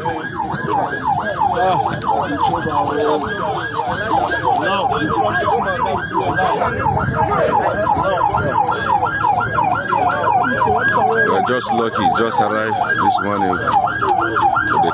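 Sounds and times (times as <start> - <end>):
emergency siren yelping: 0.0 - 14.9.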